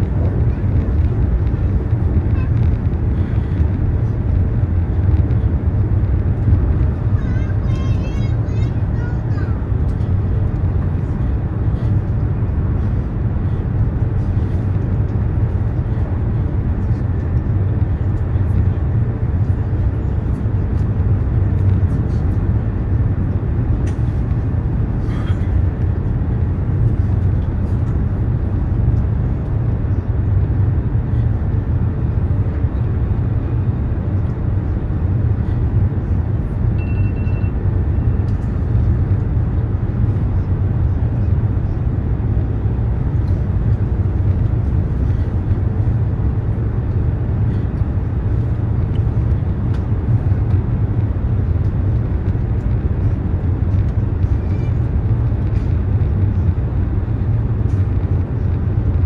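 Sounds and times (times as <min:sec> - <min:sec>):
high-speed train rumble: 0:00.0 - 0:59.0.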